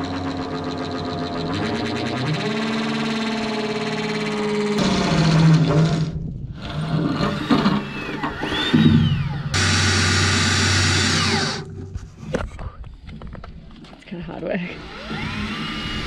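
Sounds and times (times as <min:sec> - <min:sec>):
electric drill running: 0:00.0 - 0:11.7, 0:14.7 - 0:16.0.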